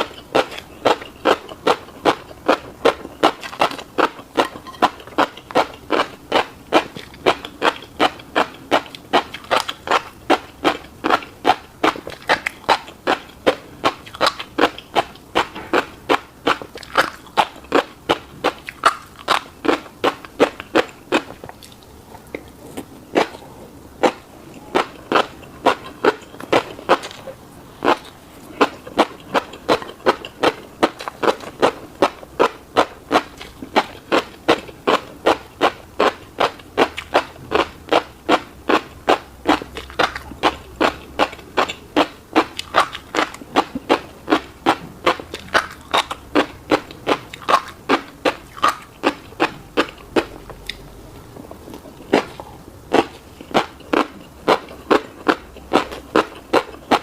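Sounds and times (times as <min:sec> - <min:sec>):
wet chewing mouth sounds: 0:00.0 - 0:57.0.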